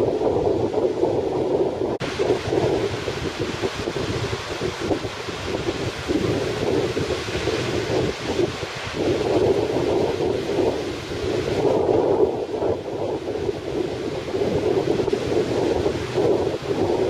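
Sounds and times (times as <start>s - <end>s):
breaking surf: 0.0s - 17.0s
wind blowing on microphone: 0.0s - 17.0s.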